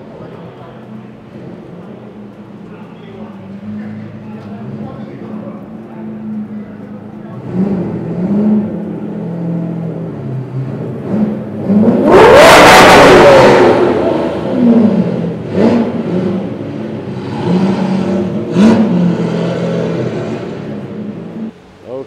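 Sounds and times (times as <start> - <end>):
loud car engine revving: 1.2 - 21.6.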